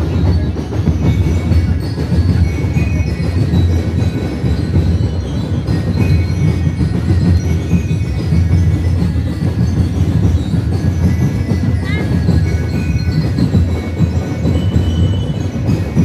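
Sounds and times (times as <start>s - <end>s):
dense festival drumming: 0.0s - 16.0s.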